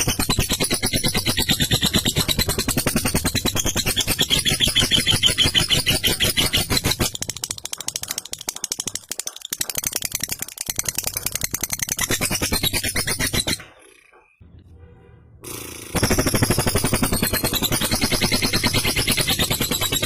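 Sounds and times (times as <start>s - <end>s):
lovebird chattering: 0.0s - 14.4s, 15.5s - 20.0s.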